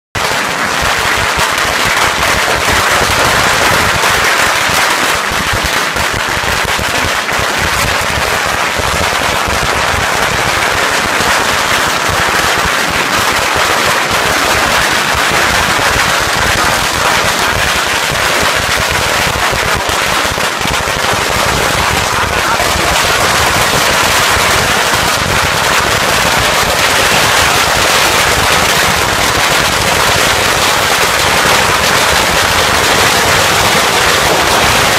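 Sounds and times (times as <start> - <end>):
firecrackers exploding: 0.2 - 34.9.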